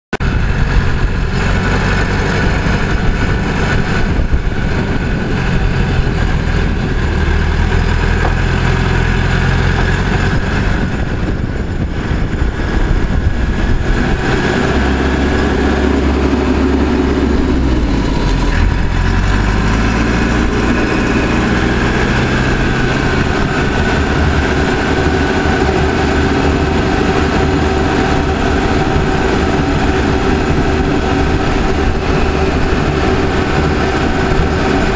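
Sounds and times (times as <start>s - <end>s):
backhoe loader diesel engine: 0.1s - 34.9s.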